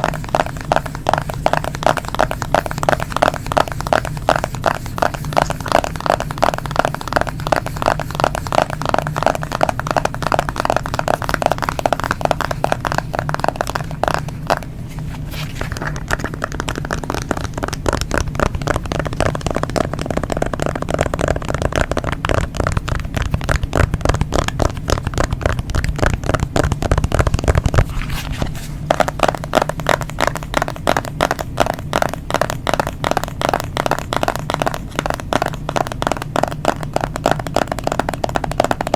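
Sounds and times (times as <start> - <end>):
tapping on smartphone: 0.0 - 27.9, 28.7 - 38.9.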